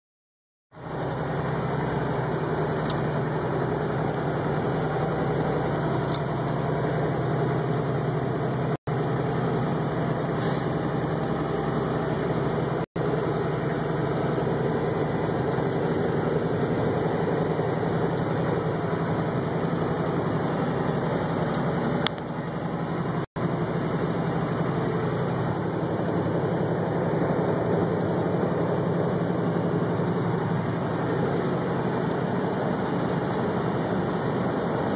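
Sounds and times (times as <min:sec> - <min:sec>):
vehicle engine and road noise: 0:00.7 - 0:34.9.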